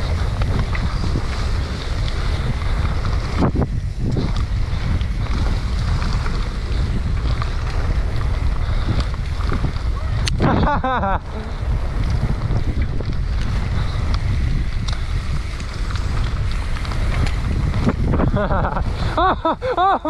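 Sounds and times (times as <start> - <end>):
bike rattles and clicks: 0.0 - 20.0
wind buffeting microphone: 0.0 - 20.0.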